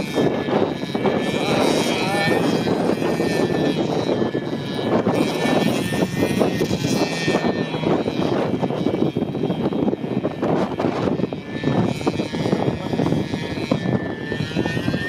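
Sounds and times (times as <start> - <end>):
snowmobile engine whine: 0.0 - 15.0.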